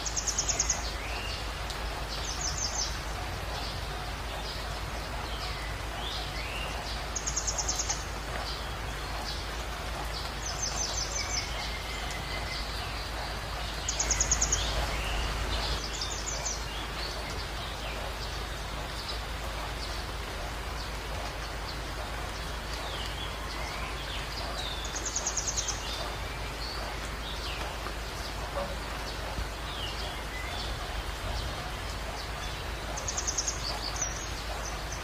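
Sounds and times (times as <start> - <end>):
rain and running water: 0.0 - 35.0.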